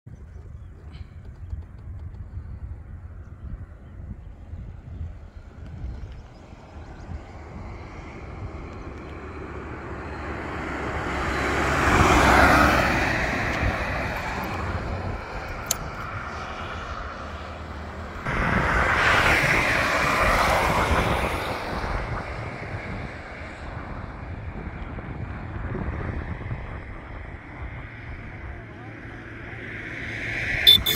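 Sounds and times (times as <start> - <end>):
wind rumbling on microphone: 0.0 - 30.9
vehicles passing on highway: 0.1 - 30.9.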